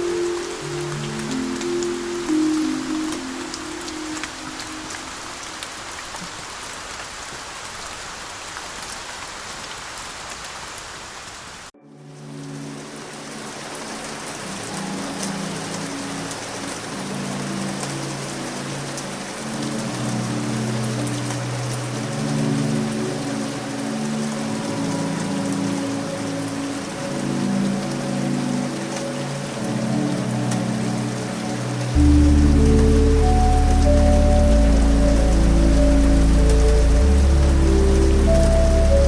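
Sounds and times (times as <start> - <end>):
low ambient music notes: 0.0 - 6.0, 11.8 - 39.0
steady rain: 0.0 - 39.0.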